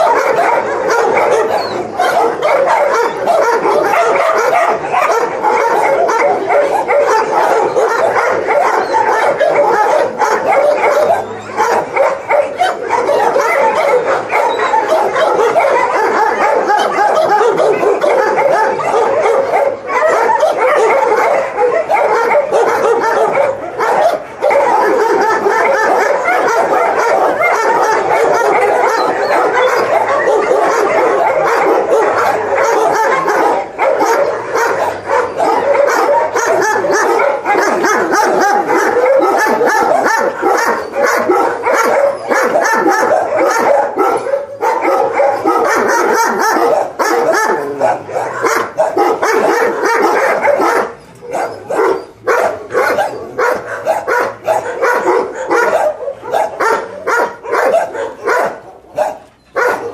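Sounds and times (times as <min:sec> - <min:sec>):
many dogs barking and yelping: 0:00.0 - 0:59.9.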